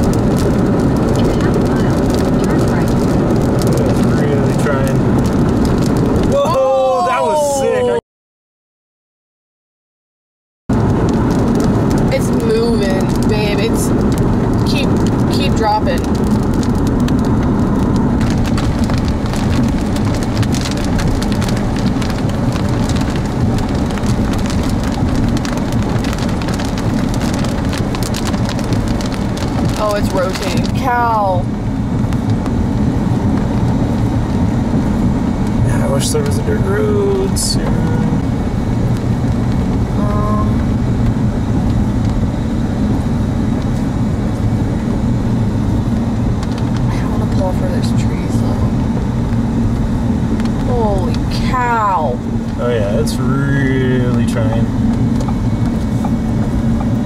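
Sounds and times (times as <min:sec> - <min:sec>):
rain ticking on car windshield: 0:00.0 - 0:07.1, 0:10.7 - 0:57.0
tyres rumbling on wet pavement: 0:00.0 - 0:08.0, 0:10.7 - 0:57.0.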